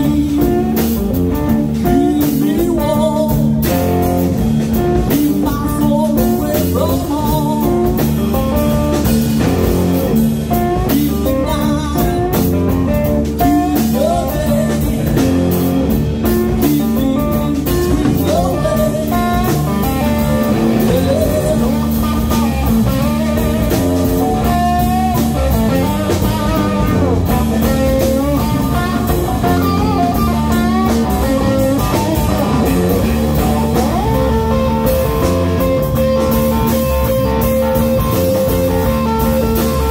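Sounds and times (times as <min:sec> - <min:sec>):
blues-rock band playing: 0:00.0 - 0:39.9
drum kit beat: 0:00.0 - 0:39.9
electric guitars: 0:00.0 - 0:39.9.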